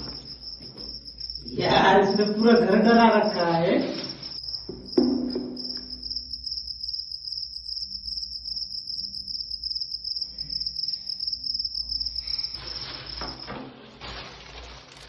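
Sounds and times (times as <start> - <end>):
cricket trilling: 0.0 - 13.6.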